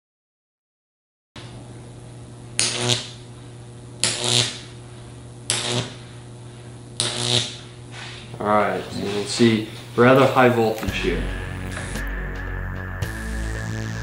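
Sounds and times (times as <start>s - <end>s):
electric arc crackling buzz: 1.4s - 14.0s
electrical hum: 1.4s - 14.0s.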